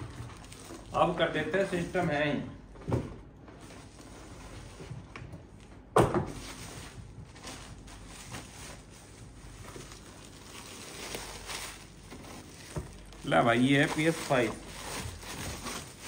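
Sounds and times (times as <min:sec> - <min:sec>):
plastic wrap rustling and crinkling: 0:00.0 - 0:02.7, 0:03.6 - 0:16.0.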